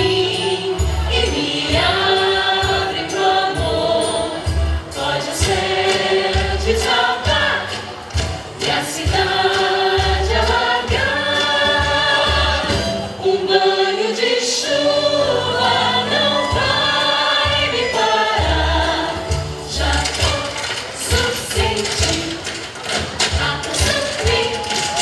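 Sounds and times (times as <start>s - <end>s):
group of voices singing: 0.0s - 25.0s.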